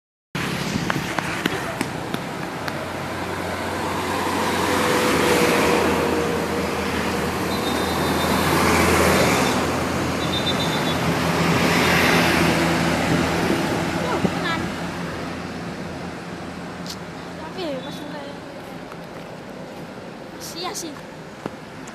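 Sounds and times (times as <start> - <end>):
vehicles passing close by: 0.4 - 21.9.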